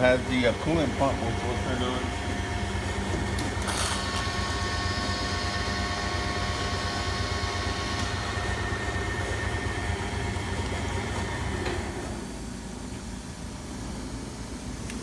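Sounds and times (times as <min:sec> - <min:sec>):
coolant pump rush: 0:00.0 - 0:14.9
lathe machinery humming: 0:00.0 - 0:14.9.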